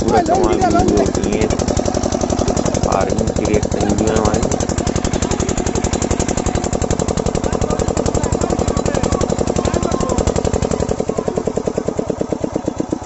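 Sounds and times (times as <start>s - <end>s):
diesel pump engine running: 0.0s - 13.0s
high-pressure water jet: 0.0s - 13.0s.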